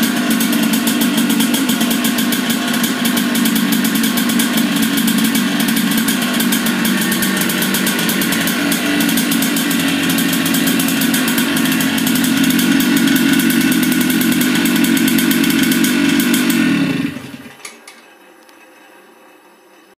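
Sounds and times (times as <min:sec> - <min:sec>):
two-stroke kart engine running: 0:00.0 - 0:17.6.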